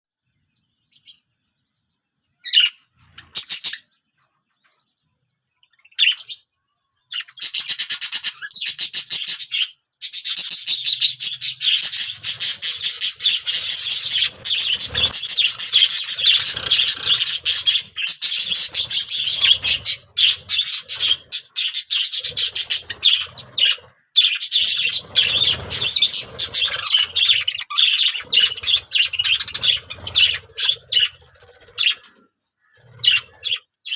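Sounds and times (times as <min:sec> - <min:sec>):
birds chirping and squawking: 0:00.2 - 0:33.9.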